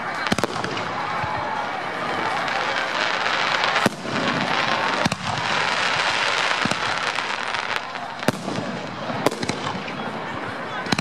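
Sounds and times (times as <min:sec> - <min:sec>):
crowd voices: 0:00.0 - 0:11.0
fireworks bursting with bangs: 0:00.0 - 0:11.0.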